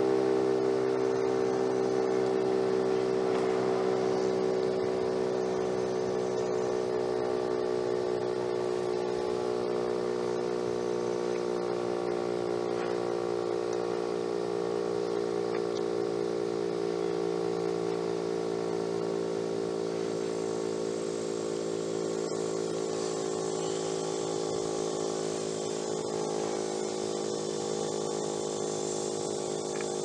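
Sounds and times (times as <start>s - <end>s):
warning siren steady tone: 0.0s - 30.0s.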